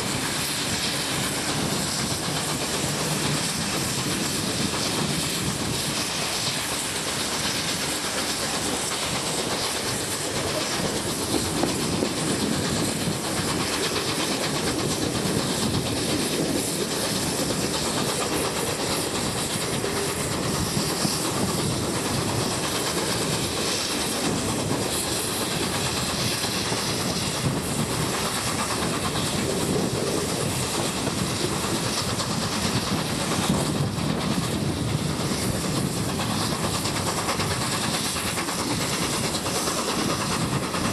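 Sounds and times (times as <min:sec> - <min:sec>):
continuous rushing noise: 0:00.0 - 0:40.9
train wheels clattering over rails: 0:00.0 - 0:40.9.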